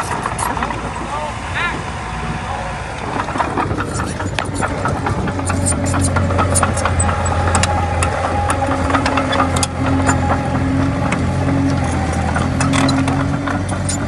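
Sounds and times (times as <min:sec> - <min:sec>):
sharp clicks and knocks: 0:00.0 - 0:01.2, 0:03.0 - 0:14.0
bulldozer diesel engine running: 0:00.0 - 0:14.0.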